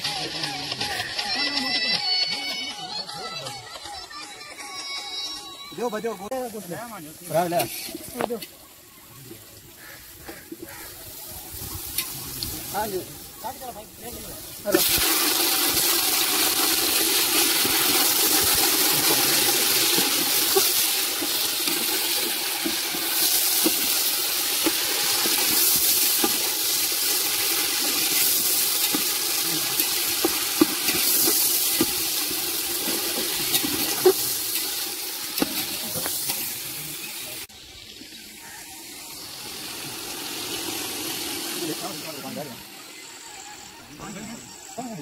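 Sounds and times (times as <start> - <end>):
chicken sizzling in hot oil: 6.0 - 43.9.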